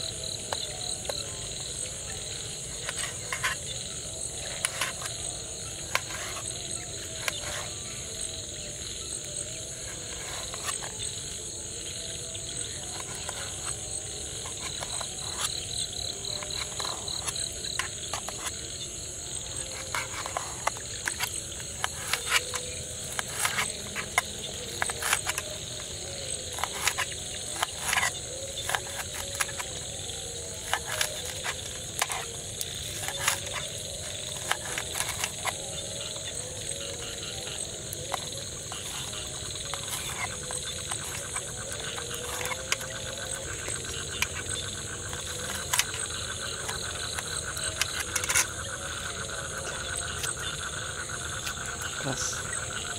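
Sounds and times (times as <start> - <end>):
frogs croaking: 0.0 - 52.9
night insects droning: 0.0 - 52.9.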